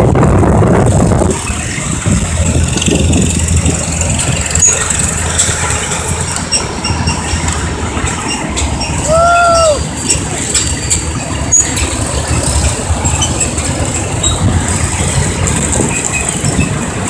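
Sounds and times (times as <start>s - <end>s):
tractor engine humming: 0.0s - 17.0s
wind buffeting microphone: 0.0s - 17.0s.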